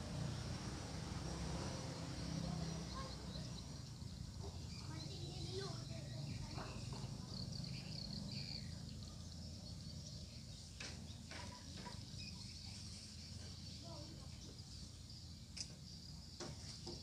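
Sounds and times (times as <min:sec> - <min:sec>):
insects chirring: 0:00.1 - 0:17.0.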